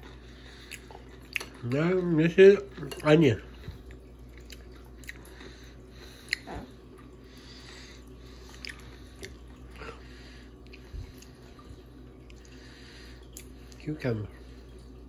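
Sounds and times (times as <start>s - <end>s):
child chewing salad: 0.0s - 14.8s.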